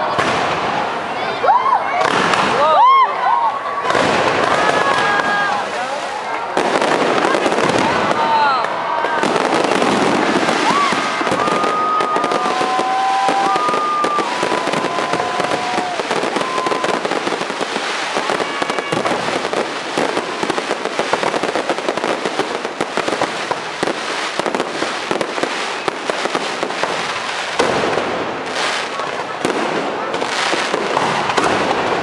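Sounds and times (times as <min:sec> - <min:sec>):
fireworks crackling: 0:00.0 - 0:32.0.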